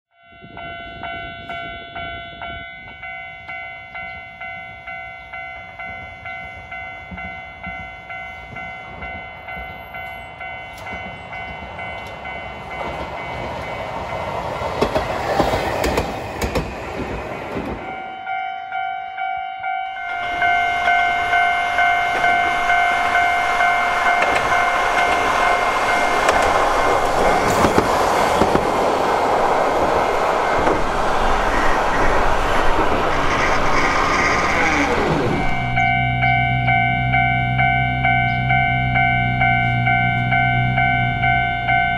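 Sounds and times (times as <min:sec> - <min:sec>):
level-crossing alarm bells: 0:00.1 - 0:15.5, 0:16.3 - 0:33.2, 0:34.5 - 0:41.9
tram wheels rumbling on rails: 0:00.2 - 0:41.9.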